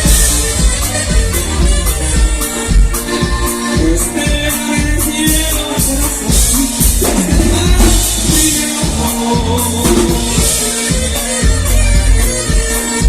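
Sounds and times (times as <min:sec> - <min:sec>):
band music: 0:00.0 - 0:13.0
bass line: 0:00.0 - 0:13.0
drum kit beat: 0:00.0 - 0:13.0.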